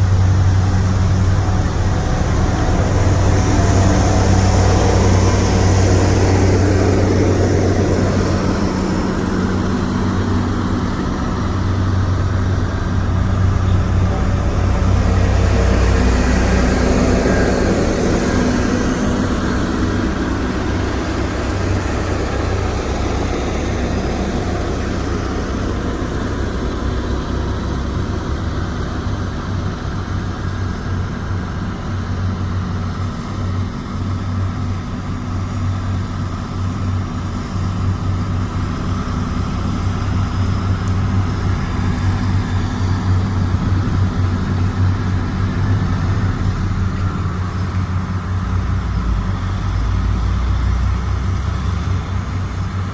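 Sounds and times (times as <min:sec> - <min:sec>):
diesel engine droning: 0:00.0 - 0:52.9.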